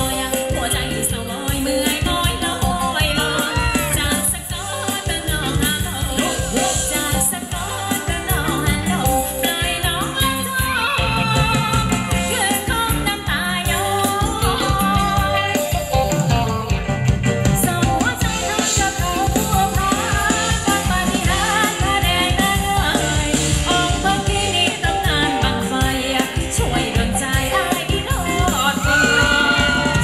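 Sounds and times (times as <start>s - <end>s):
bending melodic lead: 0.0s - 30.0s
live band dance music: 0.0s - 30.0s
steady drum beat: 0.0s - 30.0s.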